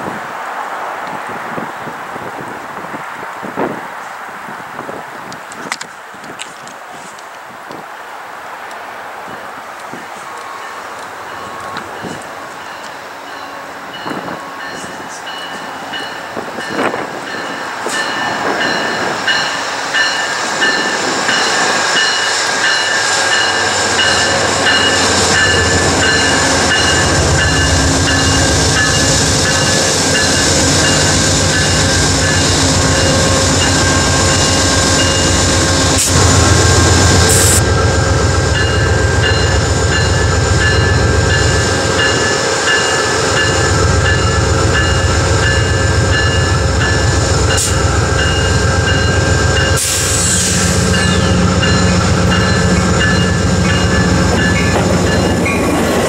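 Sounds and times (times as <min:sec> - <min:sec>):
train wheel and rail noise: 0:00.0 - 0:56.0
diesel locomotive engine rumble: 0:08.7 - 0:56.0.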